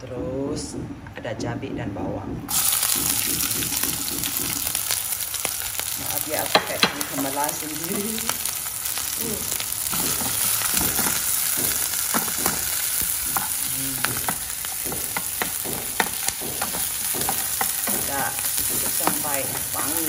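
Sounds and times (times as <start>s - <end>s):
food sizzling in hot oil: 2.5s - 20.0s.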